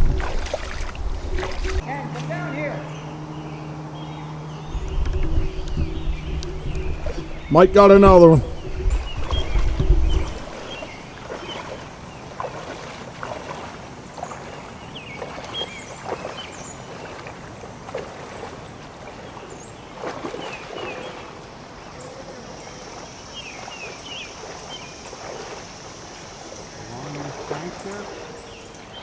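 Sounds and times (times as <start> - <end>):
birds chirping: 0.0 - 29.0
creek water splashing: 0.0 - 29.0.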